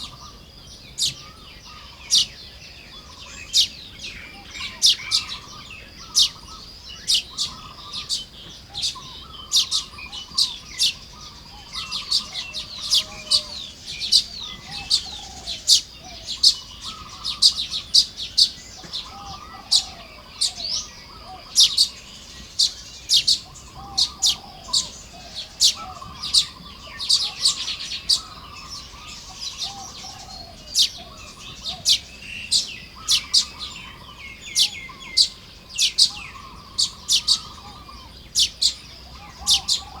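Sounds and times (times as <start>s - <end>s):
birds chirping and chattering: 0.0s - 40.0s.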